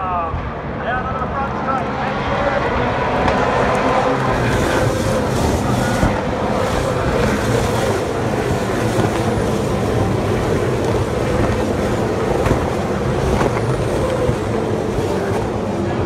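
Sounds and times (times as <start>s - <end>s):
race cars passing: 0.0s - 16.0s.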